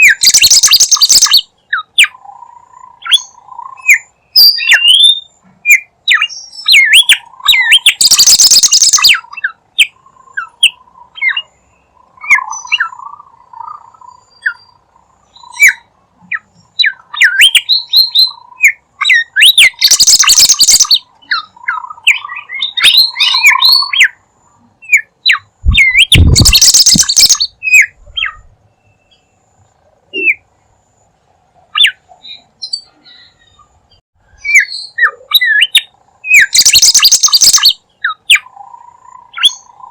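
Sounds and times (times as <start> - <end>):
bird singing chirps and whistles: 0.0 - 2.2, 2.8 - 24.2, 24.8 - 29.4, 31.7 - 33.7, 34.3 - 39.9.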